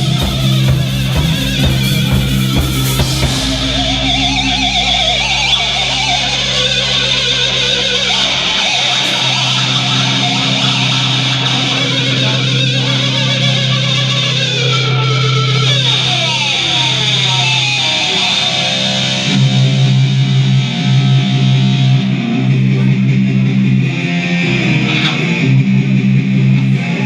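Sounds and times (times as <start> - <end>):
bass guitar: 0.0 - 27.0
electric guitar lead lines: 0.0 - 27.0.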